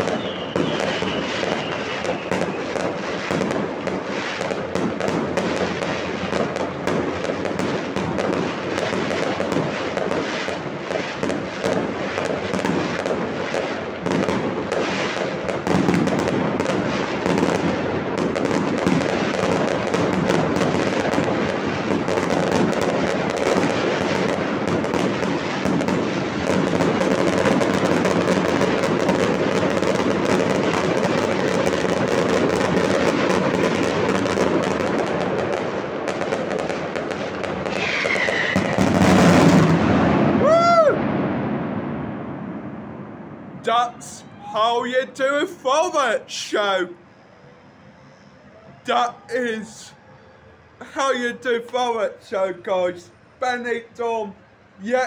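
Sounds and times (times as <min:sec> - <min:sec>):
fireworks bursting and crackling: 0:00.0 - 0:47.2, 0:48.0 - 0:50.0, 0:50.8 - 0:55.0.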